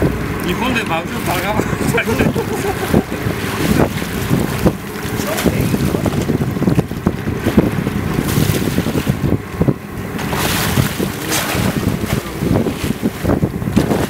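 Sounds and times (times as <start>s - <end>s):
wind buffeting microphone: 0.0s - 14.0s
fish thrashing water: 0.4s - 14.0s.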